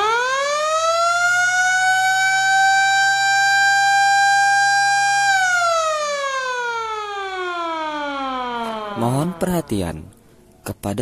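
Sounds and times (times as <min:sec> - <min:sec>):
siren winding up: 0:00.0 - 0:10.2.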